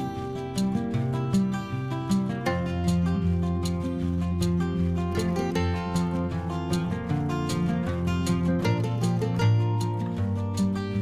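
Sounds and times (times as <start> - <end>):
held bass notes: 0.0 - 11.0
plucked guitar notes: 0.0 - 11.0.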